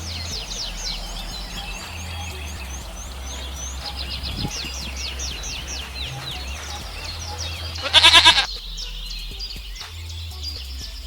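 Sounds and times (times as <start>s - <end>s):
steady low hum: 0.0s - 9.8s
songbirds singing: 0.0s - 11.0s.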